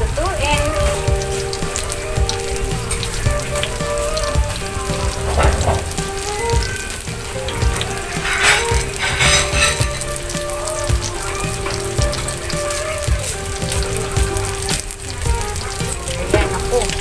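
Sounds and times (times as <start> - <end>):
background music with held notes: 0.0 - 17.0
banana sizzling in frying oil: 0.0 - 17.0.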